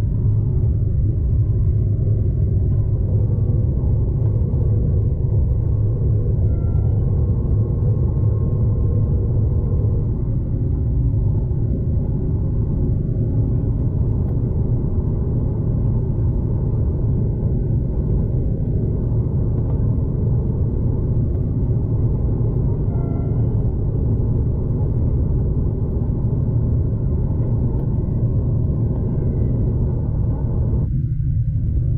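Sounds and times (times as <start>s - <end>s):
train rumble inside carriage: 0.0s - 31.9s.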